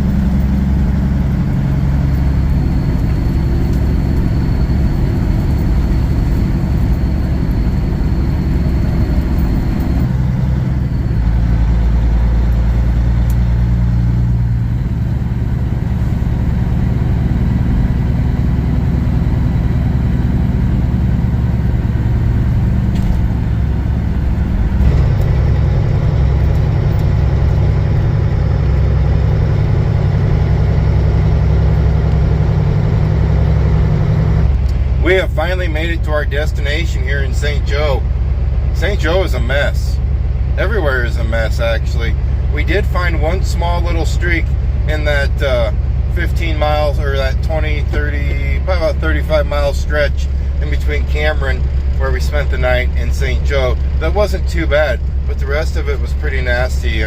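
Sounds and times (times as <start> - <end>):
road and tyre noise: 0.0 - 57.0
truck diesel engine running: 0.0 - 57.0.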